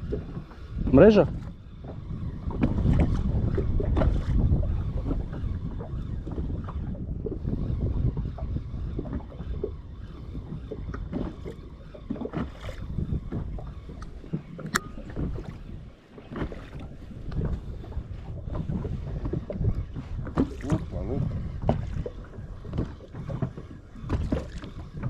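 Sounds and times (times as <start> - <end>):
water slapping against hull: 0.0 - 25.0
wind buffeting microphone: 0.0 - 25.0.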